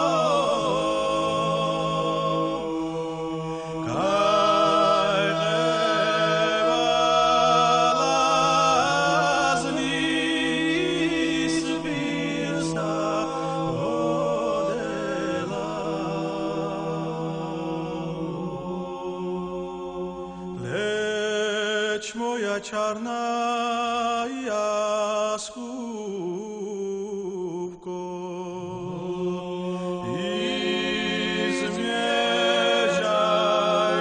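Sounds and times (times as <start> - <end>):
low held vocal drone: 0.0 - 22.7, 25.4 - 34.0
voices singing folk song: 0.0 - 34.0.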